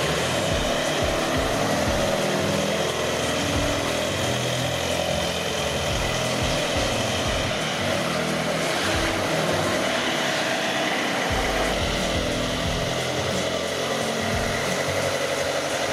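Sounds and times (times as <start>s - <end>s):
forklift diesel engine running: 0.0s - 15.9s.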